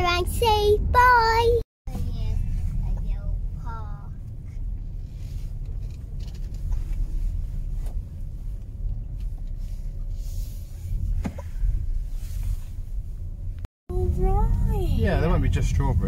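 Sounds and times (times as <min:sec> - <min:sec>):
car driving rumble from inside: 0:00.0 - 0:16.0.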